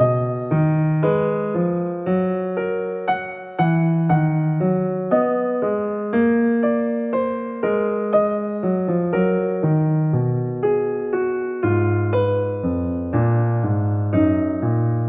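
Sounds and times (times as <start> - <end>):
electric piano playing slow chords: 0.0 - 15.0.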